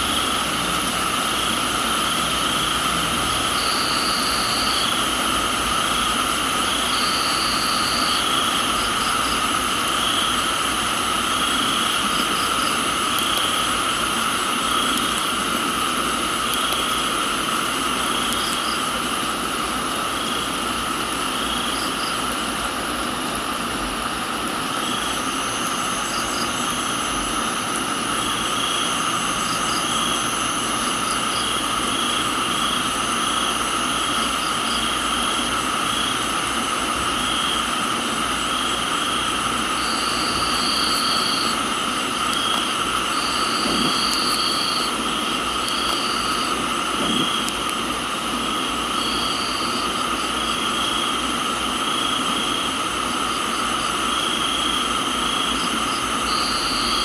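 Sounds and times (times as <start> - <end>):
crickets and insects trilling: 0.0 - 57.0
rain hiss: 0.0 - 57.0.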